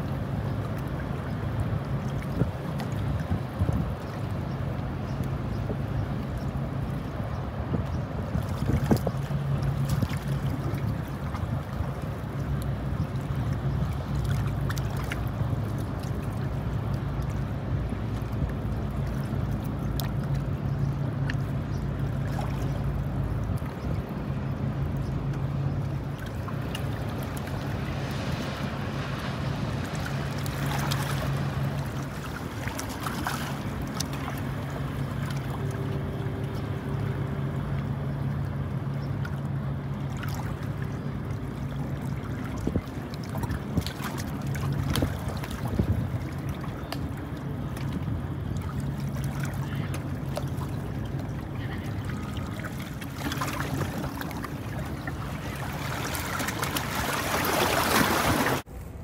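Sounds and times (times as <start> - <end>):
boat engine droning: 0.0 - 59.0
constant wash of noise: 0.0 - 59.0.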